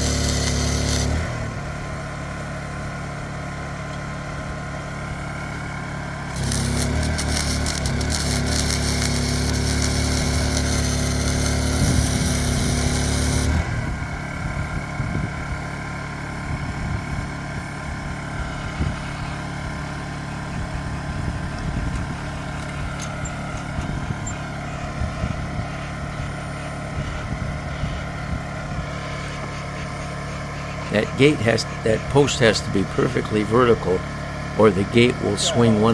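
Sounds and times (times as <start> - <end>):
generator engine running: 0.0 - 35.9.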